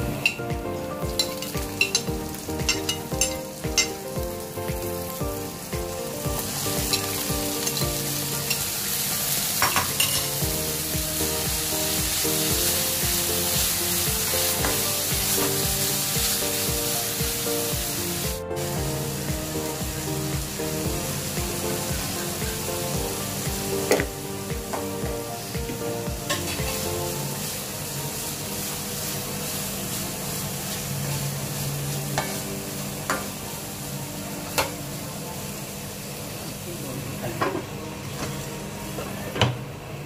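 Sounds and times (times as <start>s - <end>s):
vegetables sizzling in oil: 0.0s - 39.8s
soft background music: 0.0s - 40.0s.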